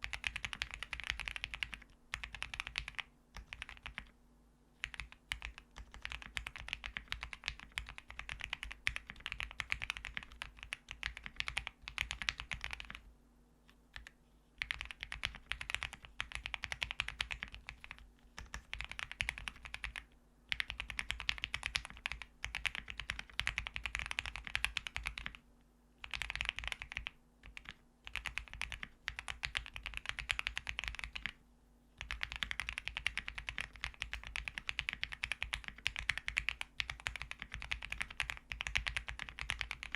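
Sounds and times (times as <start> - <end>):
mechanical keyboard typing: 0.0 - 4.1, 4.8 - 13.1, 13.9 - 25.4, 26.0 - 31.4, 32.0 - 39.9.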